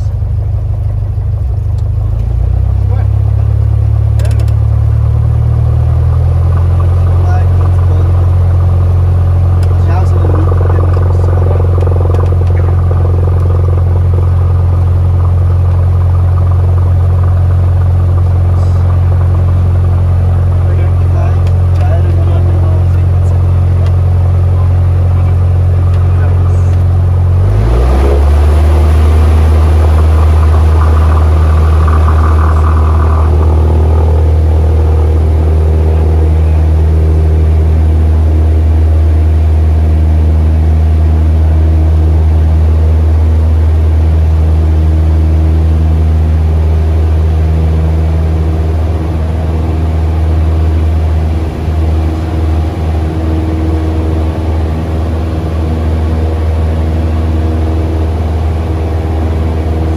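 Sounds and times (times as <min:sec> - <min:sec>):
airplane engine drone: 0:00.0 - 0:59.9.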